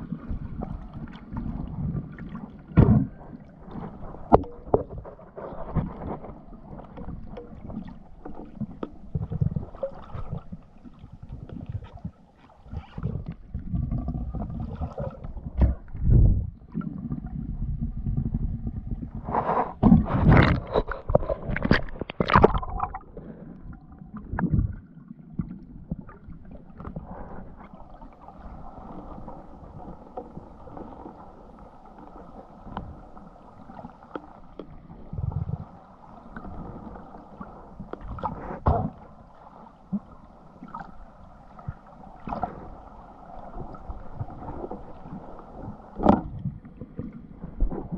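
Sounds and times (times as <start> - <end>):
sloshing and bubbling: 0.0 - 47.9
steady underwater hum: 0.0 - 47.9
underwater rushing and gurgling: 0.0 - 47.9.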